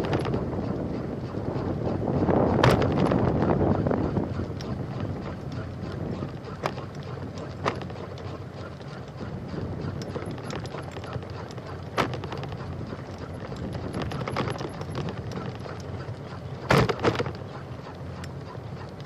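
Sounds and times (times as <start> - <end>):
bicycle tyre and wind noise: 0.0 - 19.0
bike knocking and rattling: 0.0 - 19.0.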